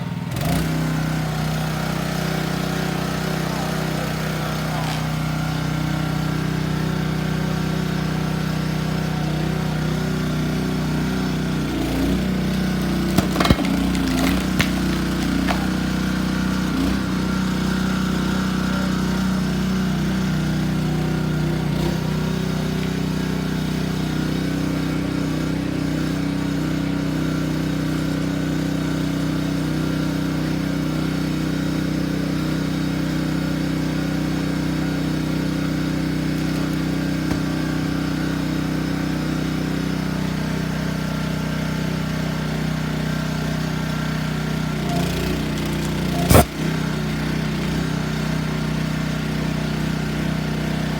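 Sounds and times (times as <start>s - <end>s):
gasoline engine running: 0.0s - 50.9s.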